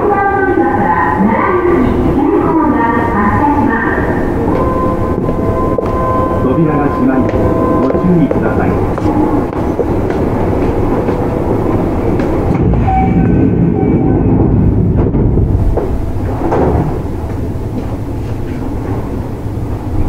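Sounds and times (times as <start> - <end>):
train wheels on rails: 1.7 - 20.0.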